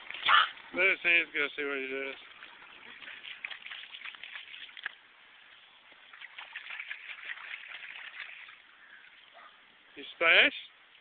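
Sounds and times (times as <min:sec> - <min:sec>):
splashing in shallow water: 0:00.0 - 0:09.4.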